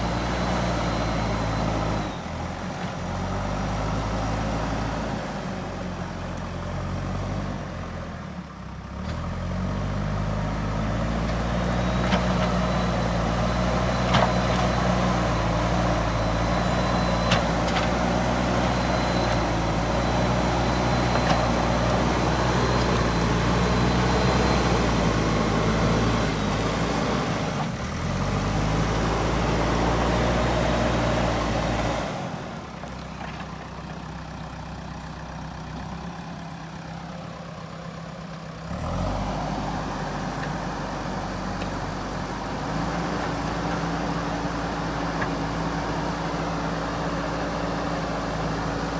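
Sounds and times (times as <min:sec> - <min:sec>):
diesel engine working under load: 0:00.0 - 0:48.9.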